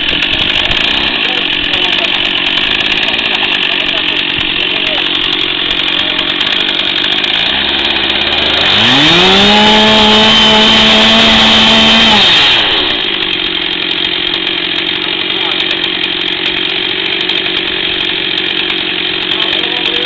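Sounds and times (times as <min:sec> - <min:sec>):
chainsaw idling and revving: 0:00.0 - 0:20.0.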